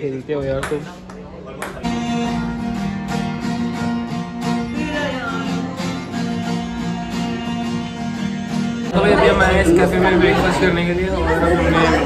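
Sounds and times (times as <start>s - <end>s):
acoustic guitar strumming: 1.6s - 12.0s.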